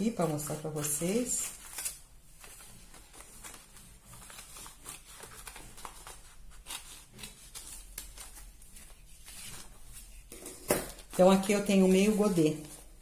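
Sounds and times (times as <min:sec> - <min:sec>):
paper crinkling: 0:00.0 - 0:13.0.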